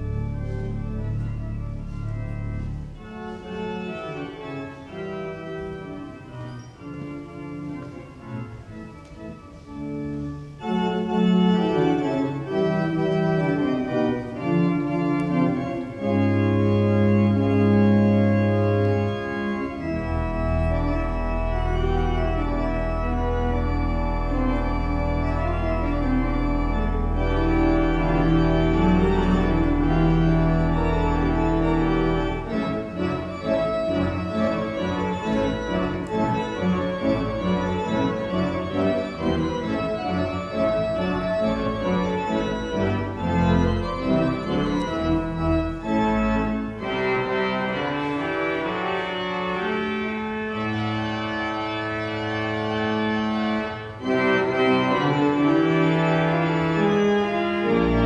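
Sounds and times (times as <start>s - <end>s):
deep organ pedal note: 0.0s - 58.0s
pipe organ sustained chords: 0.0s - 58.0s.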